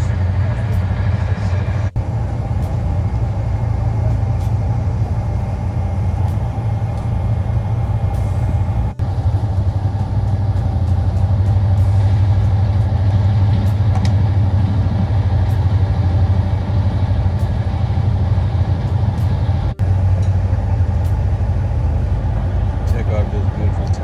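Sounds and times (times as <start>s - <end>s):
passenger train rumble: 0.0s - 24.0s.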